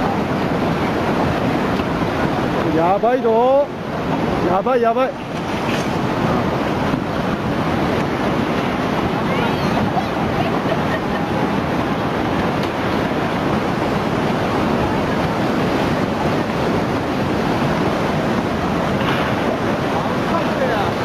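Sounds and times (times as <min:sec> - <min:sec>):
churning water rushing: 0:00.0 - 0:21.0
wind buffeting microphone: 0:00.0 - 0:21.0.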